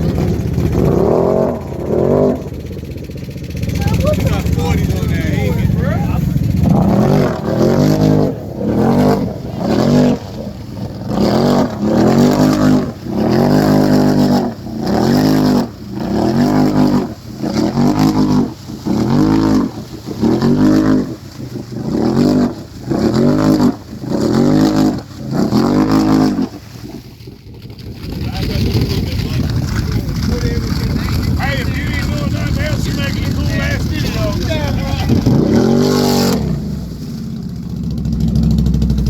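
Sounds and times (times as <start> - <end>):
atv engine revving: 0.0 - 39.0.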